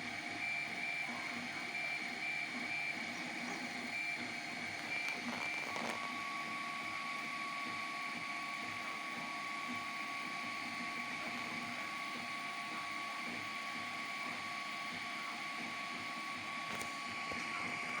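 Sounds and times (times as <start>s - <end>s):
printer machine hum: 0.0s - 18.0s.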